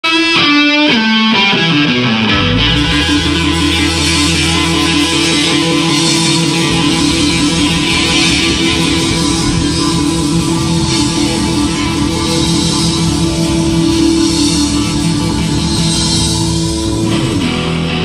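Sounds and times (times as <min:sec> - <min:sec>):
blues-rock band playing: 0:00.0 - 0:18.0
electric guitar: 0:00.0 - 0:18.0
deep held bass note: 0:02.3 - 0:18.0.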